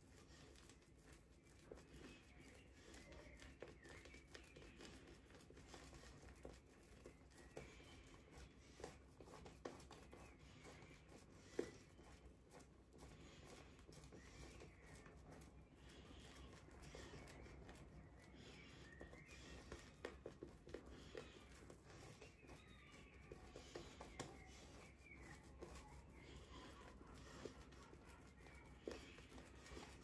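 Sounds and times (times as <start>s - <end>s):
shaving brush scratching on stubble: 0.0s - 30.0s.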